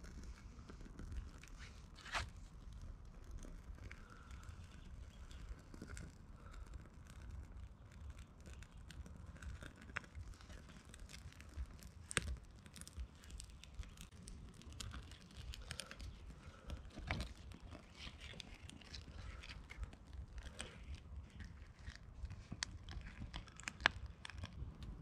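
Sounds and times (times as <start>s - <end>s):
small fire crackling: 0.0s - 25.0s.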